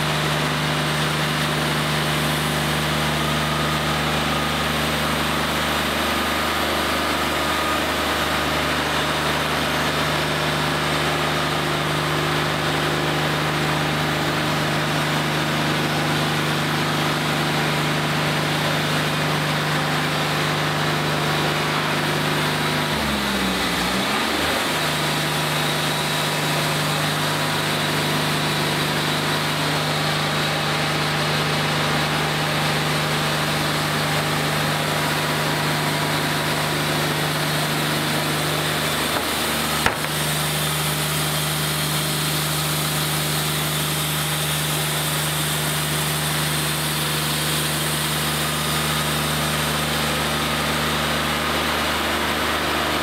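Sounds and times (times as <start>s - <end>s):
band sawmill sawing wood: 0.0s - 53.0s.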